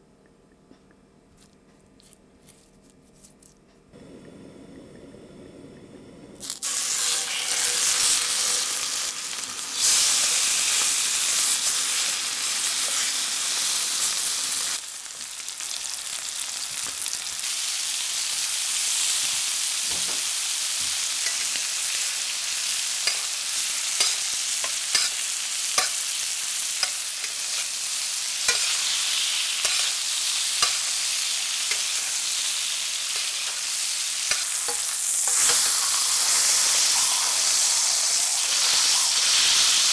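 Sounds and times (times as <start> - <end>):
meat sizzling in a frying pan: 6.4 - 39.9.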